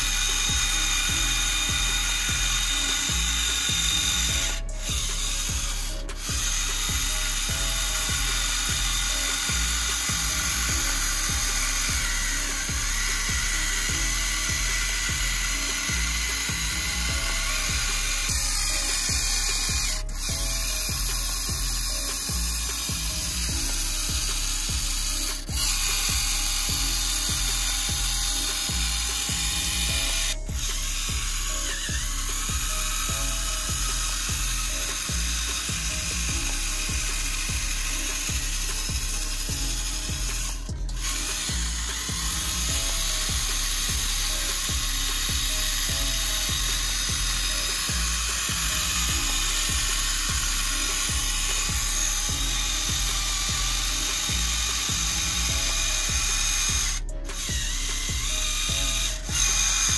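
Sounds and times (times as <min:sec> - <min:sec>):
music with bass beat: 0:00.0 - 0:59.9
toy tractor motors whirring: 0:00.0 - 0:59.9.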